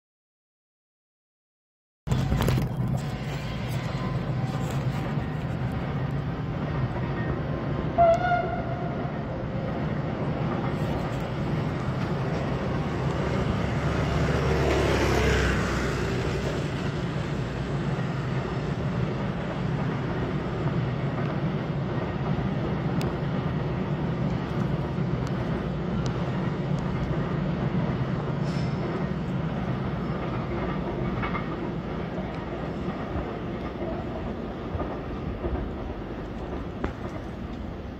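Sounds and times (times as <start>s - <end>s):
freight train rumbling: 2.1s - 37.9s.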